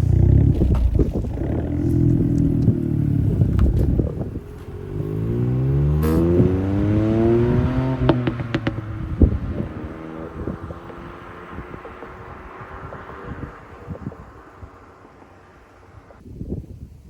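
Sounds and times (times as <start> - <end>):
car engine revving: 0.0 - 16.2
exhaust pops and crackles: 0.0 - 16.2.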